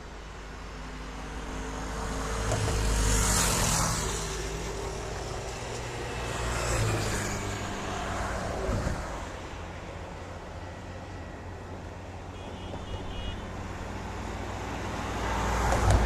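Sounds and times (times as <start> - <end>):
passing vehicles: 0.0 - 16.0.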